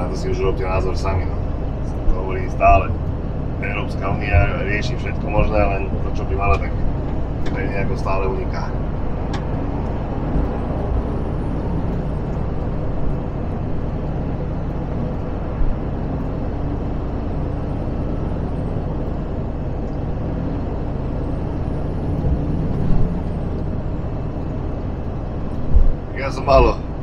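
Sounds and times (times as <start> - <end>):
truck engine and tyre rumble: 0.0 - 27.0.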